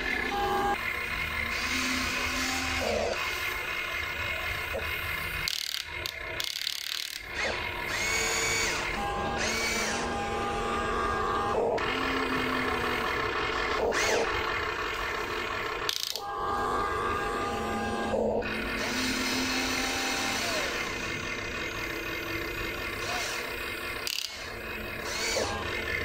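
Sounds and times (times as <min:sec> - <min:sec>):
electric motors and gearboxes whining: 0:00.0 - 0:26.0.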